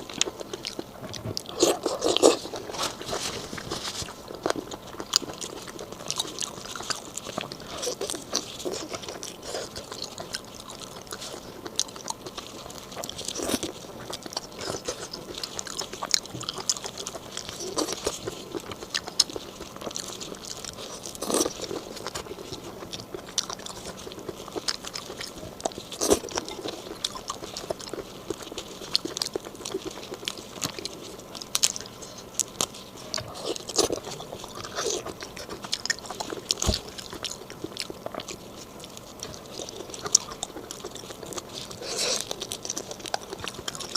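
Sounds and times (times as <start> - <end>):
crunching and chewing shrimp: 0.0 - 43.9.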